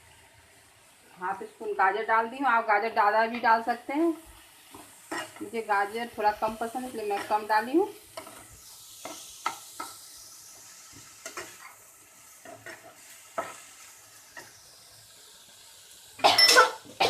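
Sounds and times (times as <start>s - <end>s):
vegetables sizzling in pan: 0.0s - 17.0s.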